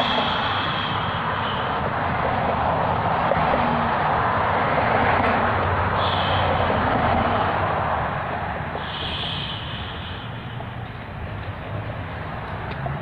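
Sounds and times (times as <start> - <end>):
vehicle passing on road: 0.0 - 13.0.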